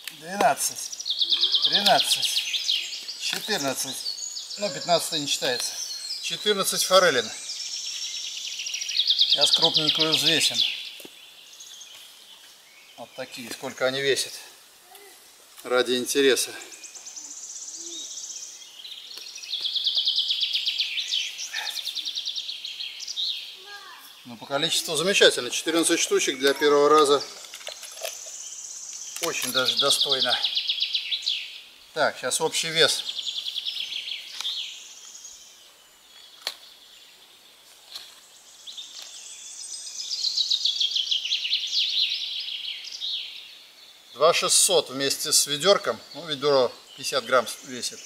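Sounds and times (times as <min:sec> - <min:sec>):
songbirds trilling: 0:00.0 - 0:48.0.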